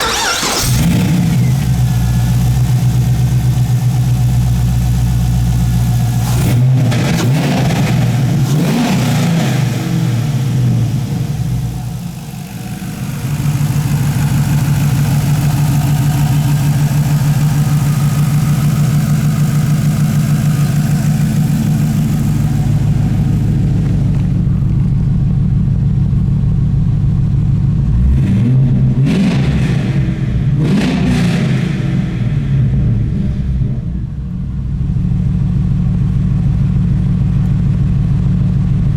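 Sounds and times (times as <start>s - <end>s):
car engine revving and idling: 0.0s - 38.9s.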